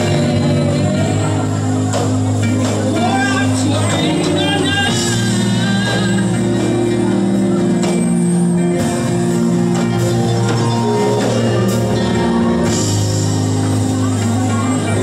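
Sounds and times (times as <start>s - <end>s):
held low chords: 0.0s - 15.0s.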